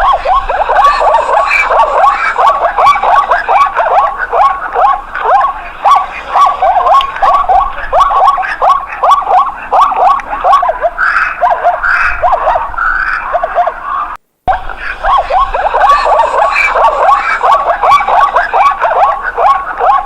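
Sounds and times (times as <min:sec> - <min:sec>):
dog yapping: 0:00.0 - 0:14.2, 0:14.8 - 0:20.0.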